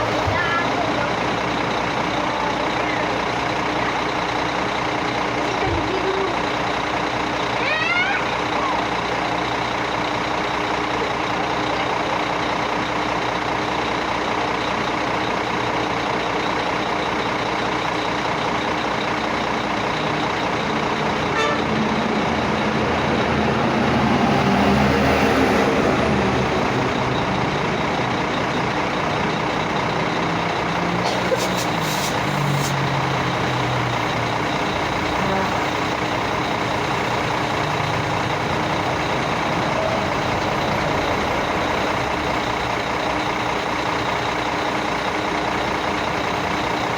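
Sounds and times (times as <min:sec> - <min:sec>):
heavy vehicle engines: 0:00.0 - 0:46.9
road noise: 0:00.0 - 0:46.9.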